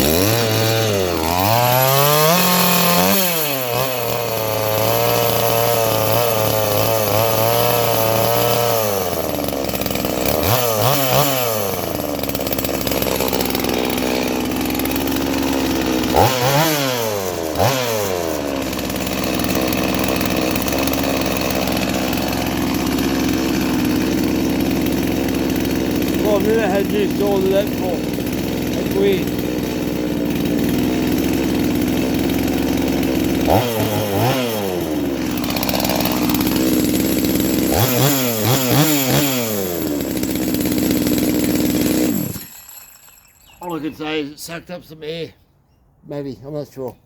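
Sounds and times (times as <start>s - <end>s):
chainsaw engine revving: 0.0s - 45.0s.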